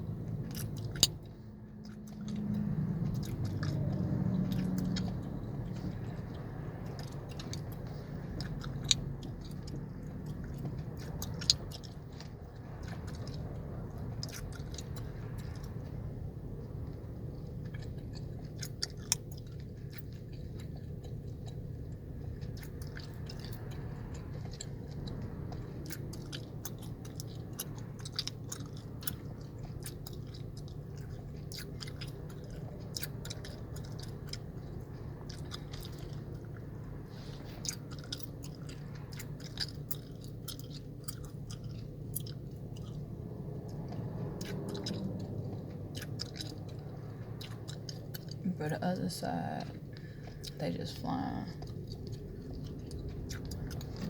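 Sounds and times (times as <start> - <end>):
car cabin hum: 0.0 - 54.0
gum chewing: 0.0 - 54.0.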